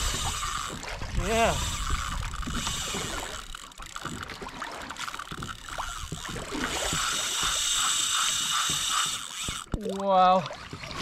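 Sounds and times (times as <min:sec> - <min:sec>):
fishing reel whirring: 0:00.0 - 0:10.4
water washing against hull: 0:00.0 - 0:11.0
wind: 0:00.0 - 0:11.0.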